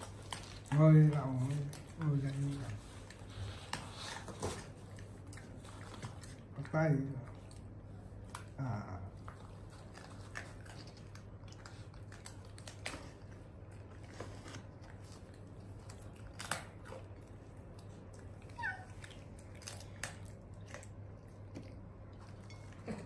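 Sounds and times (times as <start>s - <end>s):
monkey eating clicks and rustles: 0.0s - 23.0s.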